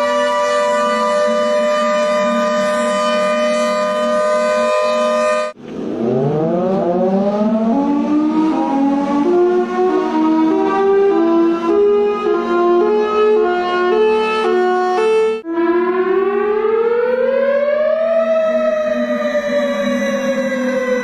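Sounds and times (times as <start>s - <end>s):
air-raid siren wailing: 0.0s - 21.0s
siren tone jumping between pitches: 0.0s - 21.0s.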